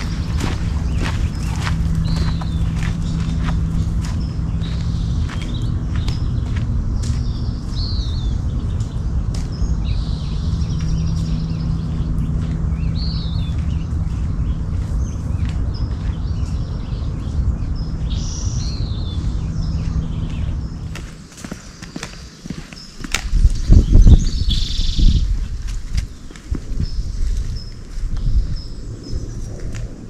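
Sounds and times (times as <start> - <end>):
loud steady low rumble: 0.0 - 22.3, 23.2 - 30.0
faint hum: 0.0 - 30.0
small birds chirping: 0.0 - 30.0.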